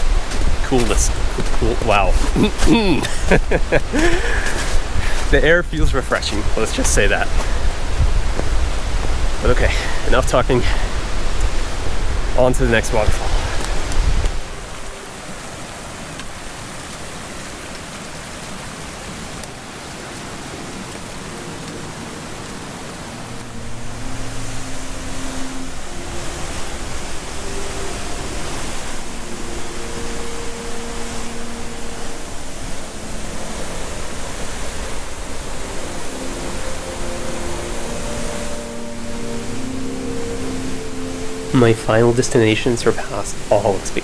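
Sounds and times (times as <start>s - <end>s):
rushing river and waterfall: 0.0s - 44.0s.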